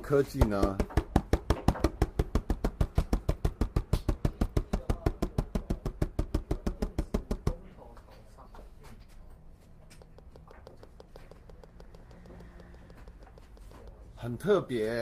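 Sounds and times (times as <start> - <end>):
rapid even tapping: 0.0 - 8.0, 9.8 - 15.0.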